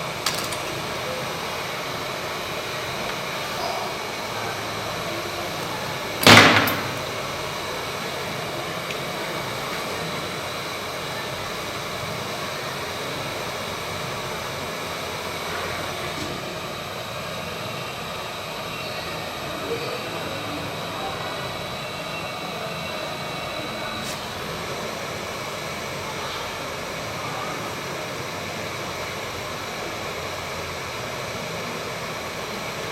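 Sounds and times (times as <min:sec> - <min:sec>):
hot air blower hissing: 0:00.0 - 0:32.9.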